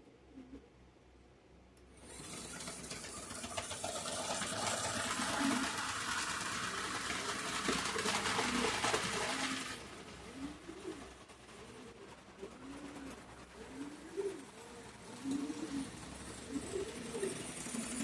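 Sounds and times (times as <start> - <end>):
model train whirring clatter: 1.9 - 18.0.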